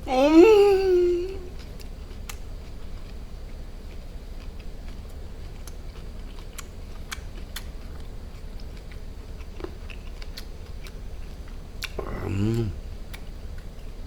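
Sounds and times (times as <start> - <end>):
person chewing food: 1.5 - 13.9.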